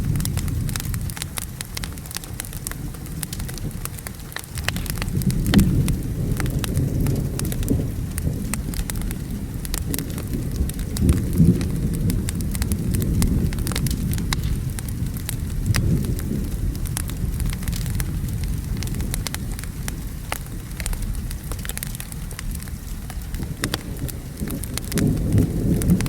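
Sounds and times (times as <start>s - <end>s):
rolling thunder: 0.0s - 26.0s
steady rain: 0.0s - 26.0s
wood fire crackling: 0.0s - 26.0s.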